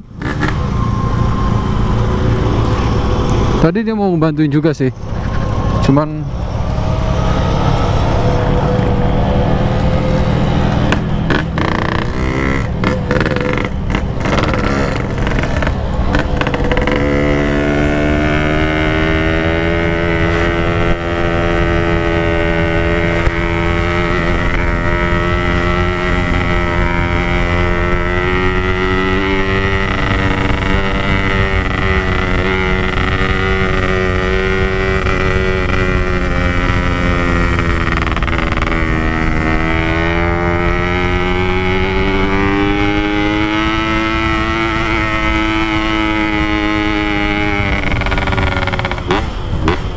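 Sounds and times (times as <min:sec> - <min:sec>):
motorcycle engine running: 0:05.0 - 0:49.9.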